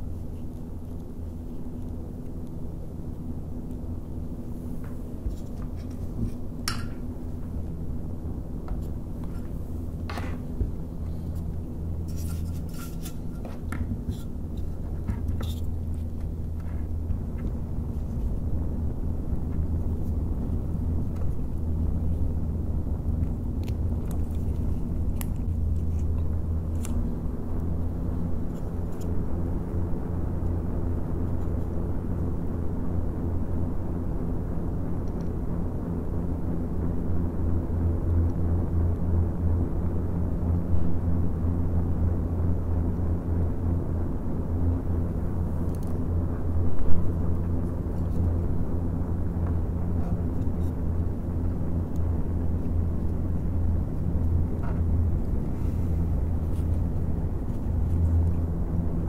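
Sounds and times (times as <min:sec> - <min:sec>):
fans humming with airflow rush: 0:00.0 - 0:59.0.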